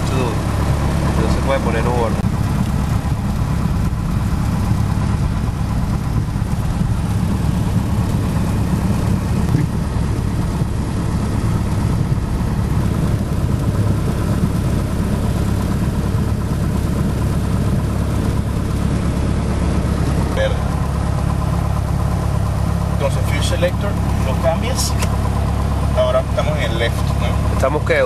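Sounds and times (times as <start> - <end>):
light aircraft engine running: 0.0 - 28.0.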